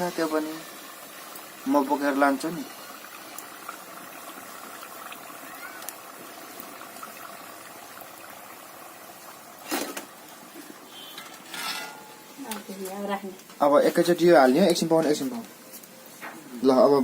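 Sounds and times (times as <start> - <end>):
fritters sizzling in hot oil: 0.0 - 17.0.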